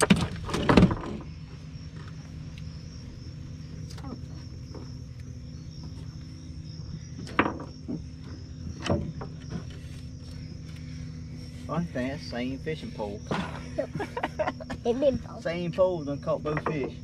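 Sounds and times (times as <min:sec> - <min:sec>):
crickets trilling: 0:00.0 - 0:17.0
steady low hum: 0:00.0 - 0:17.0.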